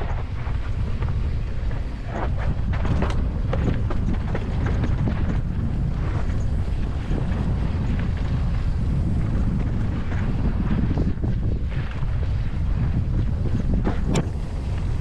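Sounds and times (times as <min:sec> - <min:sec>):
bike clicks and rattles: 0:00.0 - 0:15.0
tyres crunching on loose dirt: 0:00.0 - 0:15.0
wind buffeting microphone: 0:00.0 - 0:15.0.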